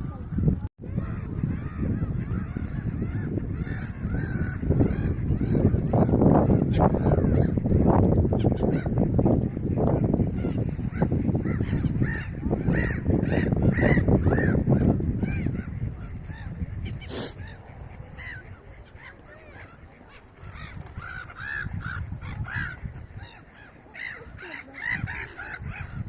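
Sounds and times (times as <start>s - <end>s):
birds cawing: 0.9s - 7.5s, 10.4s - 26.0s.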